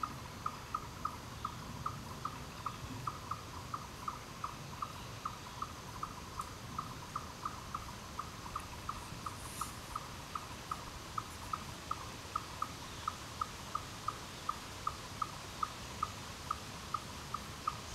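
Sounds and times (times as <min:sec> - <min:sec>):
faint outdoor hiss: 0:00.0 - 0:17.9.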